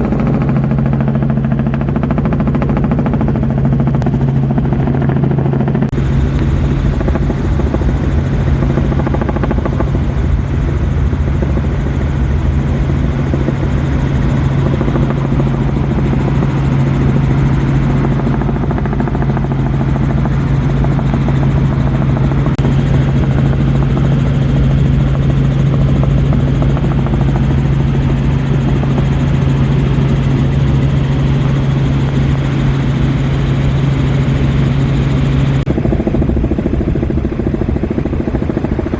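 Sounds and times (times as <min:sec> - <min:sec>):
helicopter rotor and engine drone: 0:00.0 - 0:38.9.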